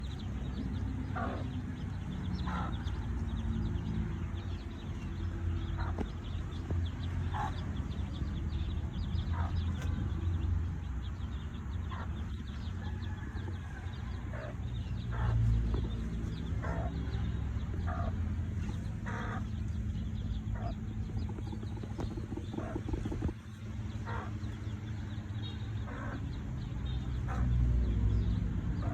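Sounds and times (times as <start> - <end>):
chickens clucking: 0.0 - 28.9
low rumble: 0.0 - 28.9.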